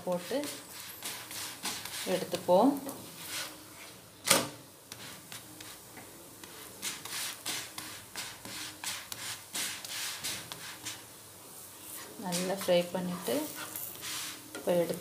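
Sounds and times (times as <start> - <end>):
spatula rubbing flatbread: 0.0 - 4.0, 4.9 - 11.1, 11.8 - 14.6
wooden spatula scraping a griddle: 0.0 - 4.0, 4.9 - 11.0, 11.9 - 15.0.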